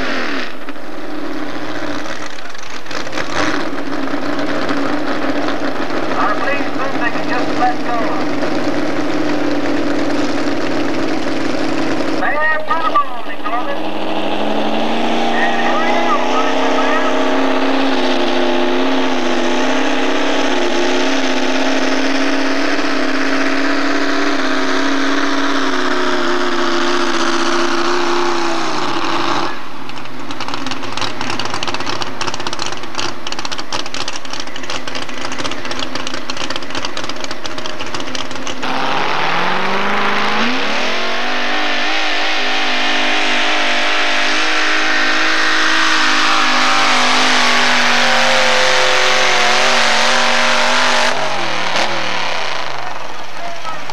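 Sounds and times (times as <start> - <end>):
pulling truck engines at full throttle: 0.0 - 53.9.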